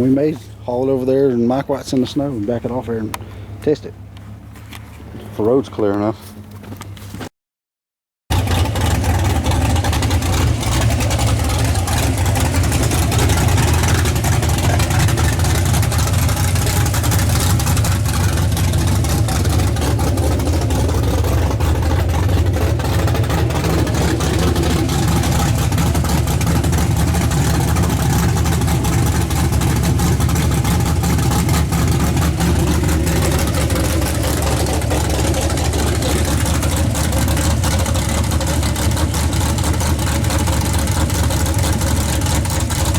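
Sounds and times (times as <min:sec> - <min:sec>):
pickup engine droning: 0:00.0 - 0:07.1, 0:08.3 - 0:42.9.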